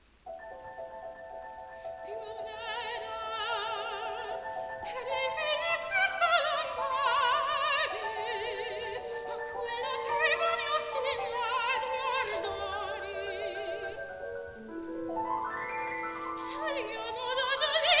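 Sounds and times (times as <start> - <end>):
piano accompaniment: 0.2 - 18.0
soprano singing with vibrato: 0.3 - 18.0.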